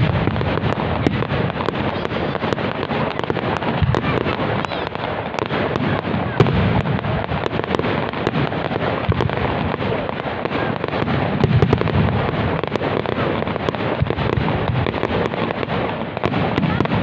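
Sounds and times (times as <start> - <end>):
fireworks booms: 0.0 - 17.0
fireworks crackling: 0.0 - 17.0.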